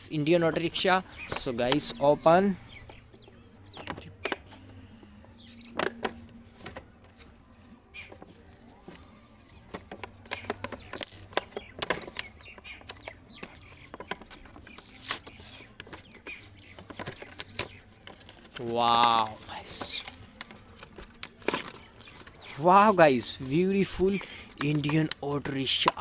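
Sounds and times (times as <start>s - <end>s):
cardboard and plastic crinkling: 0.0s - 26.0s.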